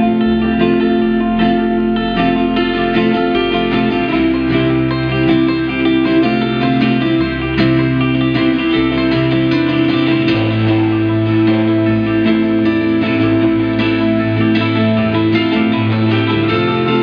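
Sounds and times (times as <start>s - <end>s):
bass line: 0.0s - 17.0s
guitars picked and strummed: 0.0s - 17.0s.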